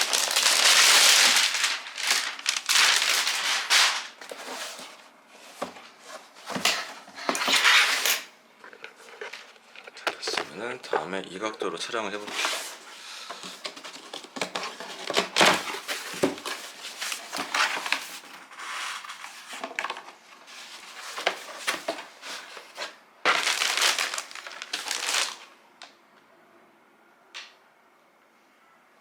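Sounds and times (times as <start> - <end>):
packaging crinkling and rustling: 0.0 - 11.0, 12.2 - 25.9.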